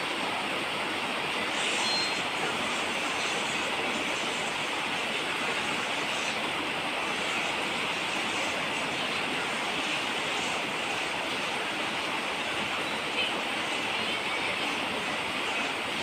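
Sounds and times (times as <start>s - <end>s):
steady falling rain: 0.0s - 16.0s.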